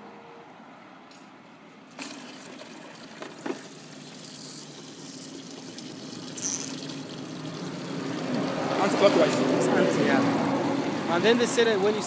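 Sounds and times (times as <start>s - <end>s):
water pouring into plastic bucket: 1.9s - 11.6s.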